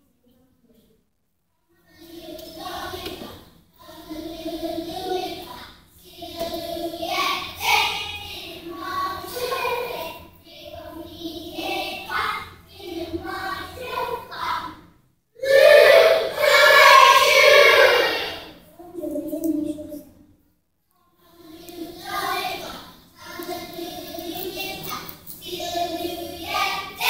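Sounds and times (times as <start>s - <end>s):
children's choir singing: 1.8s - 20.0s, 21.0s - 27.0s.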